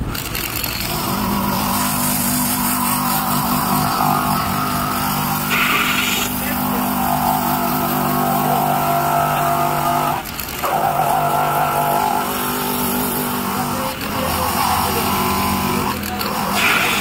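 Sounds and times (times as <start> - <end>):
rotary grinder whining on rubber: 0.0 - 17.0.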